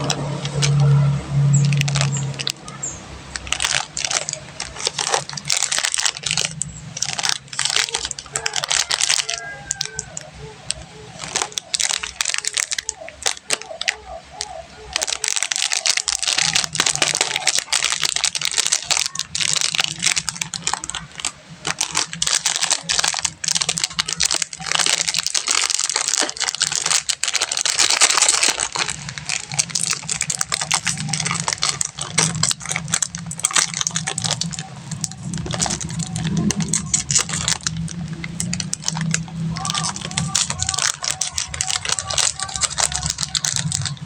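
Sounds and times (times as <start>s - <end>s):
plastic wrappers crinkling: 0.0s - 44.0s.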